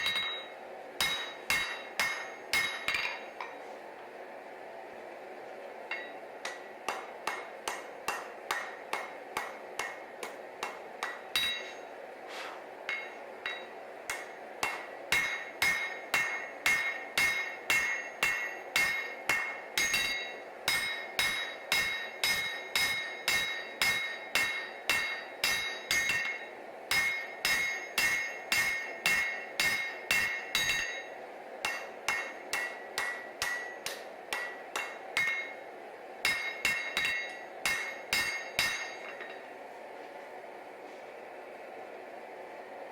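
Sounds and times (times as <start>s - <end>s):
hammer ringing on anvil: 0.0s - 3.6s, 5.9s - 12.0s, 12.9s - 39.5s.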